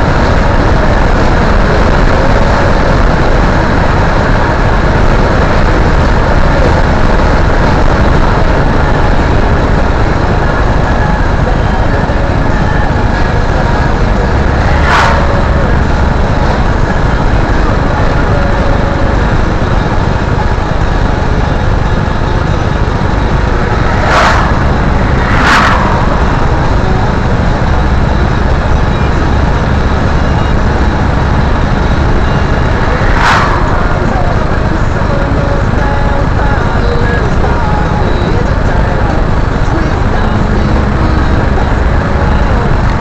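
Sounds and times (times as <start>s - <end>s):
passing vehicles swishing: 0.0s - 37.8s
car cabin road and engine noise: 0.0s - 43.0s.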